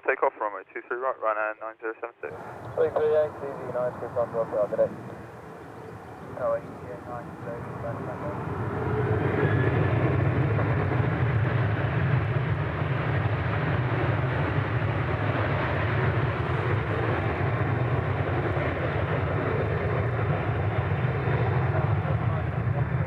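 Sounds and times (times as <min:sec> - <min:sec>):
jet engines at takeoff power: 0:02.2 - 0:23.0.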